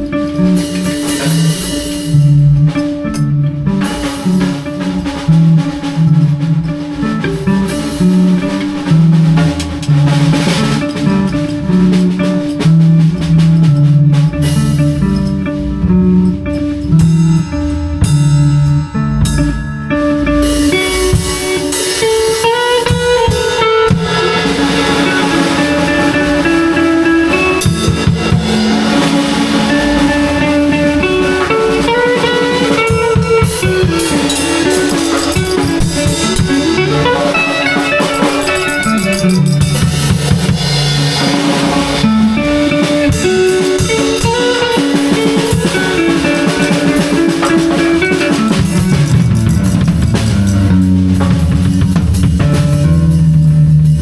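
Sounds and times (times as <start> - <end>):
drum kit playing: 0.0 - 54.0
electric guitar melodic lines: 0.0 - 54.0.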